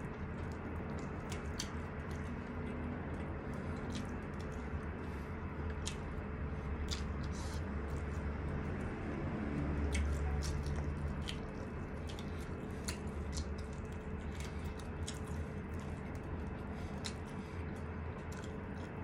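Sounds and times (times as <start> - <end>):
steady low hum: 0.0 - 19.0
wet chewing clicks and smacks: 0.0 - 19.0.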